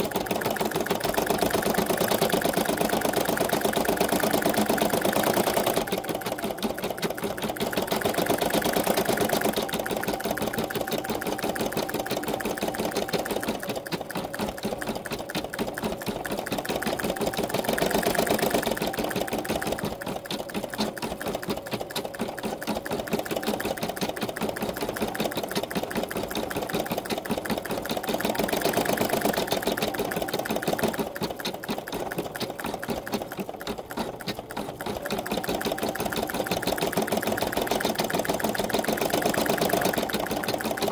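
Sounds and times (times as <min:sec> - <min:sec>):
embroidery machine stitching: 0:00.0 - 0:40.9.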